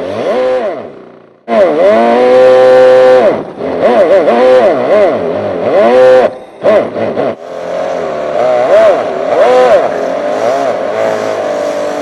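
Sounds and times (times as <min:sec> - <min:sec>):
synthesized engine revving: 0:00.0 - 0:12.0.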